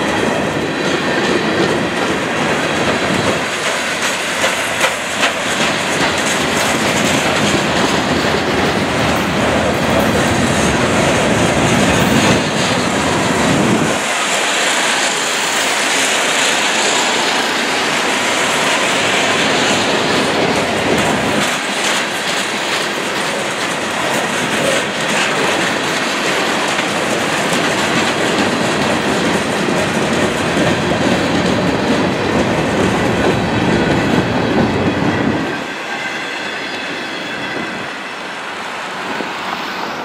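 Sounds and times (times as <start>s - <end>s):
freight train wheels clattering: 0.0s - 40.0s.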